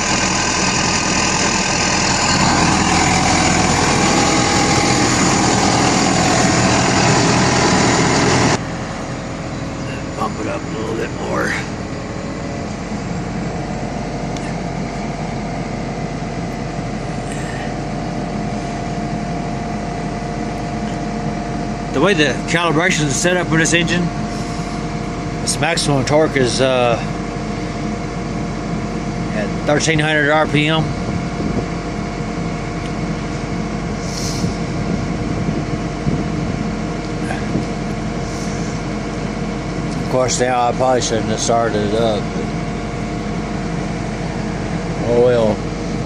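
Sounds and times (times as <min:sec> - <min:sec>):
diesel engine idling: 0:00.0 - 0:46.0
thin steady whine: 0:00.0 - 0:46.0.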